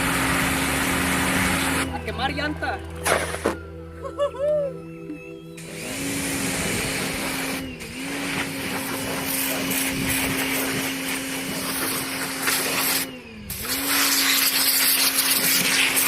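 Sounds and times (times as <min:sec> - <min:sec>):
pressure washer motor humming: 0:00.0 - 0:03.9, 0:05.5 - 0:16.0.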